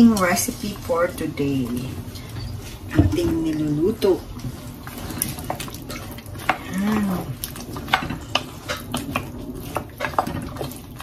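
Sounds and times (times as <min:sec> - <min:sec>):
wooden spoon stirring in pot: 0:00.0 - 0:11.0.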